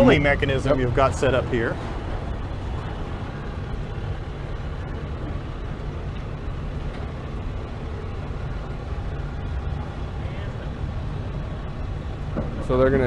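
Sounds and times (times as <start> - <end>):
diesel pickup engine rumbling: 0.0 - 13.0.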